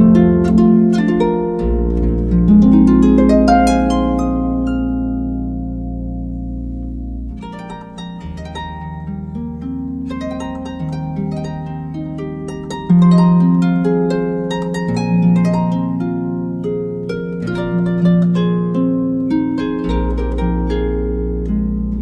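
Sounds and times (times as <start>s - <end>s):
plucked-string melody: 0.0s - 22.0s.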